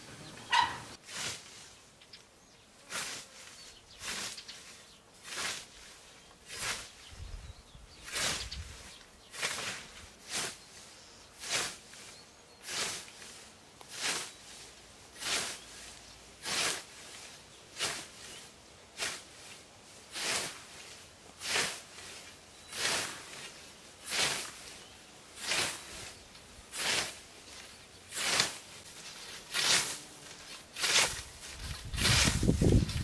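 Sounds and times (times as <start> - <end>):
scythe swishing through grass: 0.5 - 1.9, 2.9 - 7.3, 8.0 - 33.0.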